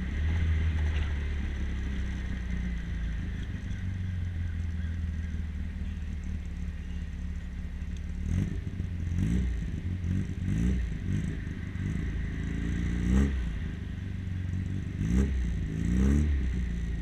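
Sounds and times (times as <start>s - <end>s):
car engine running: 0.0s - 17.0s
road and wind noise: 0.0s - 17.0s.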